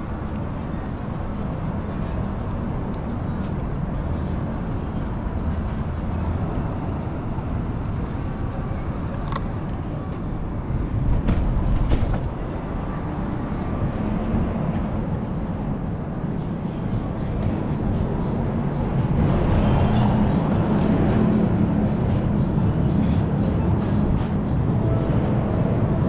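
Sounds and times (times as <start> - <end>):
bicycle road noise: 0.0 - 26.0
wind: 0.0 - 26.0.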